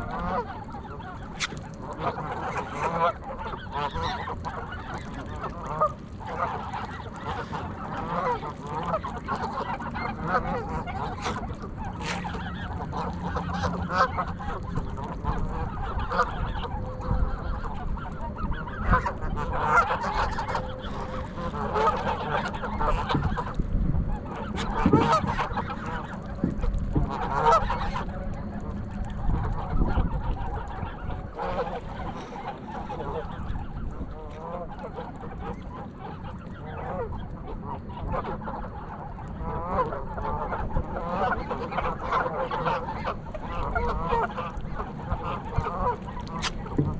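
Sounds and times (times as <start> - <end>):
geese honking: 0.0 - 46.9.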